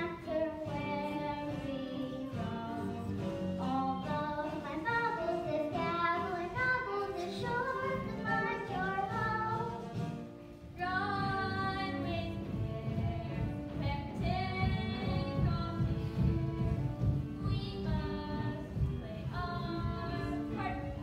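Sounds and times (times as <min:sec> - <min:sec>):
musical accompaniment: 0:00.0 - 0:21.0.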